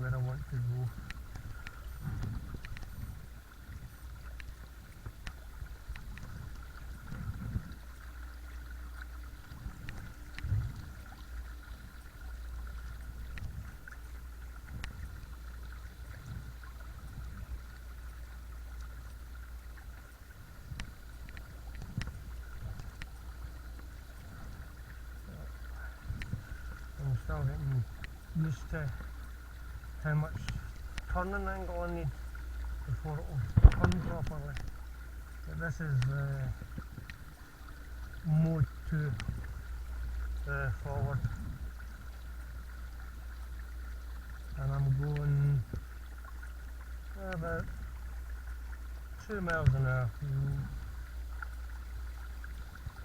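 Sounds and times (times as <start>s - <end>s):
water against hull: 0.0s - 53.0s.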